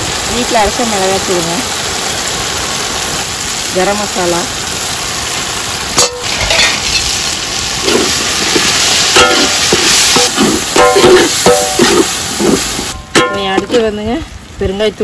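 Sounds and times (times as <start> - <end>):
masala sizzling in hot oil: 0.0 - 15.0.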